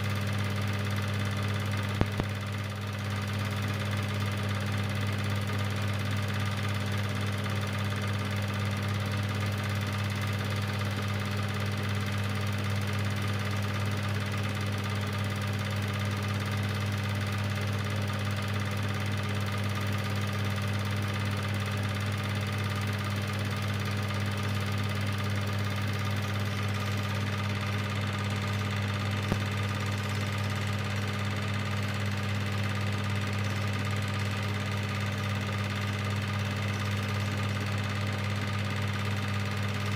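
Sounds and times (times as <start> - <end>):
projector motor hum: 0.0 - 39.9.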